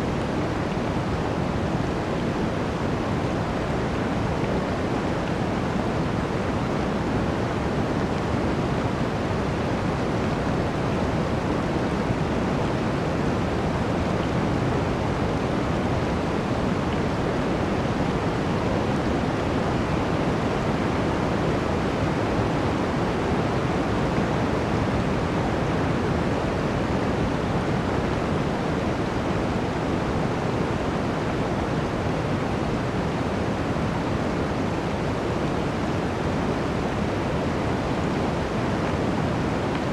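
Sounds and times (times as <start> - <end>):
blizzard wind rushing through forest: 0.0 - 39.9.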